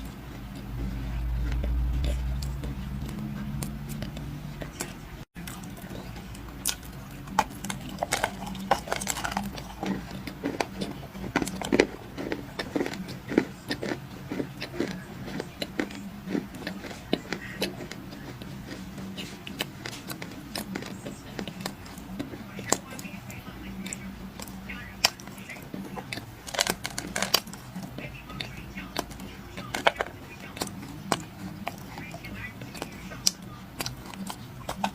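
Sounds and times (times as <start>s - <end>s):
person chewing crunchy clay: 0.0s - 34.9s.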